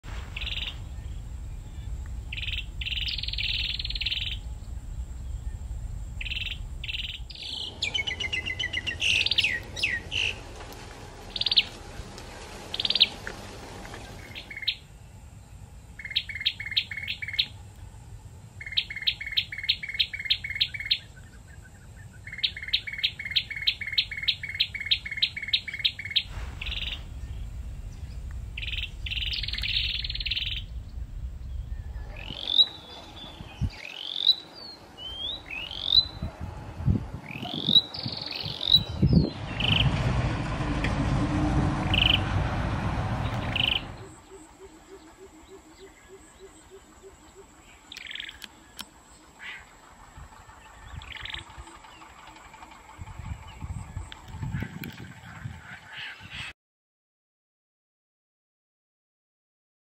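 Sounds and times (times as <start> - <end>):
bird singing repeated notes: 0.3 - 10.5, 11.2 - 11.9, 12.7 - 13.2, 14.0 - 17.6, 18.6 - 36.3, 37.2 - 40.0, 41.9 - 42.3, 43.2 - 55.4.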